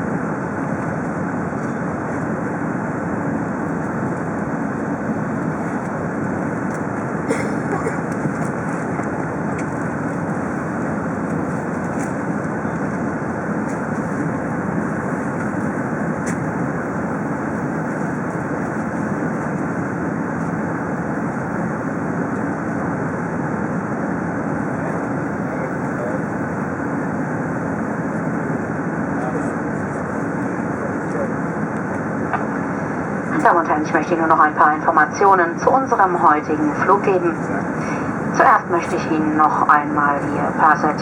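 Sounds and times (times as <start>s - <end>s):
airplane cabin engine and air noise: 0.0s - 41.0s.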